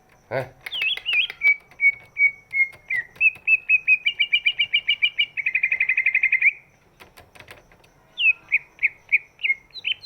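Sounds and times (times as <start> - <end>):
bird chirping and trilling: 0.6 - 10.0.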